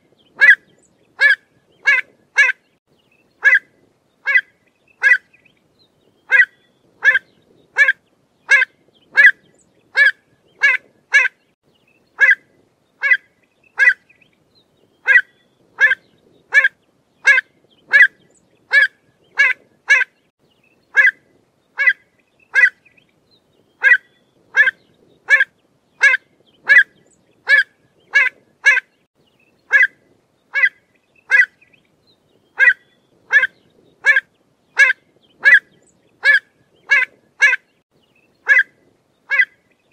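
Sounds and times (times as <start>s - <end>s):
bird calling: 0.0s - 2.7s, 3.4s - 11.6s, 12.2s - 12.4s, 13.0s - 14.3s, 14.9s - 20.3s, 20.9s - 21.2s, 21.8s - 29.0s, 29.7s - 31.8s, 32.4s - 37.8s, 38.4s - 38.7s, 39.3s - 39.9s.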